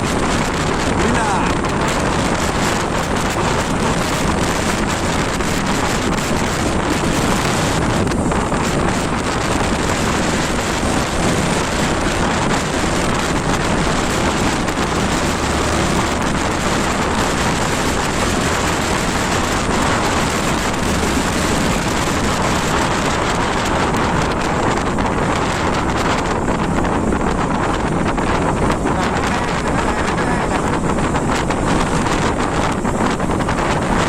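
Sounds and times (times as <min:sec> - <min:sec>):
motorcycle engine running: 0:00.0 - 0:34.0
road noise: 0:00.0 - 0:34.0
wind rush over microphone: 0:00.0 - 0:34.0.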